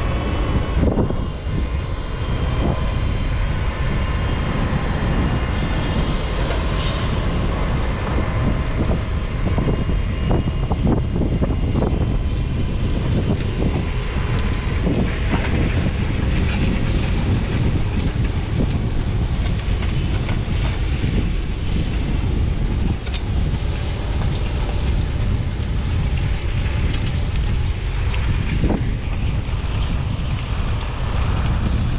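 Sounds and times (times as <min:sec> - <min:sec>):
wind rumble on microphone: 0:00.0 - 0:31.9.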